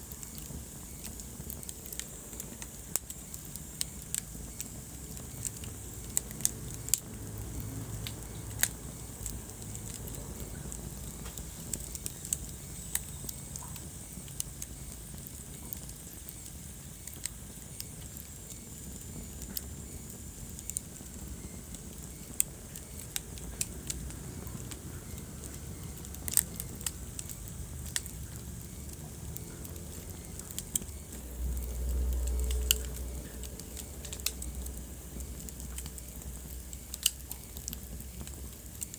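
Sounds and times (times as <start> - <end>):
fire pops and snaps: 0.0 - 38.9
low rumble of flames: 0.0 - 38.9.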